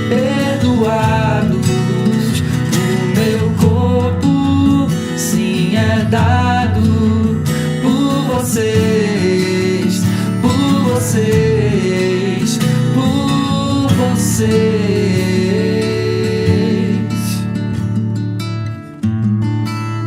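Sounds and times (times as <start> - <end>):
worship song: 0.0 - 17.4
acoustic guitar: 0.0 - 20.0.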